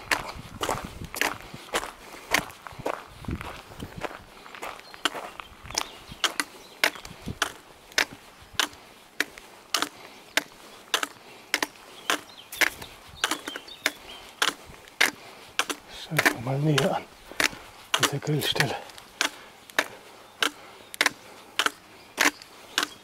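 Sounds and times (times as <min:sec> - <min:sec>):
footsteps tapping: 0:00.0 - 0:23.0.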